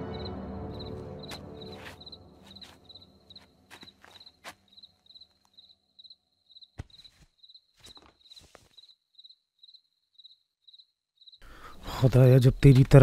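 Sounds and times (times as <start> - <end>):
crickets chirping: 0.1 - 11.8.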